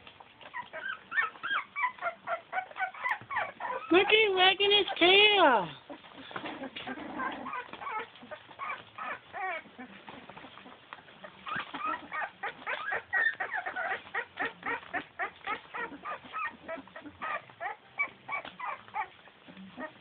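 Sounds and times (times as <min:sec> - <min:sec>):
puppies squeaking and whining: 0:00.0 - 0:20.0.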